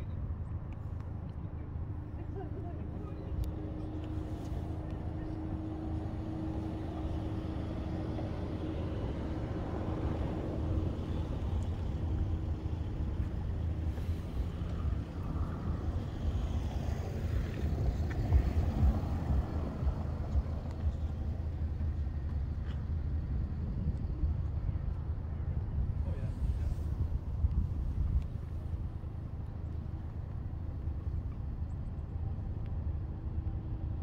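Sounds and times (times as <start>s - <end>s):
low outdoor rumble: 0.0s - 34.0s.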